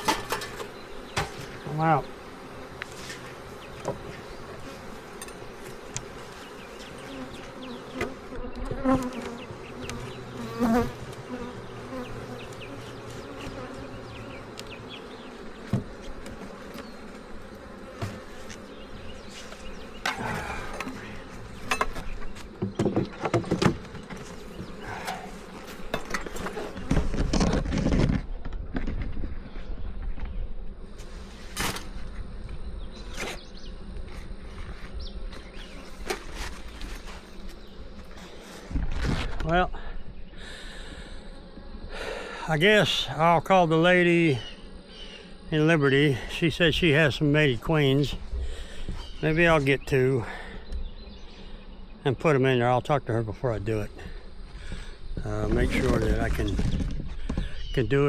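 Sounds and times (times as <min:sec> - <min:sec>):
bees buzzing: 0:00.0 - 0:28.5, 0:29.3 - 0:58.0.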